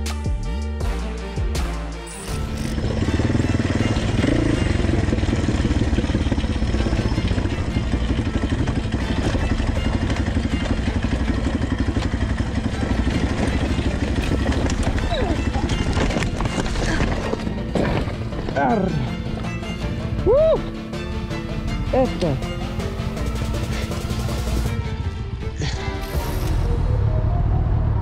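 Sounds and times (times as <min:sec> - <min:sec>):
quad bike engine running: 0:02.2 - 0:27.0.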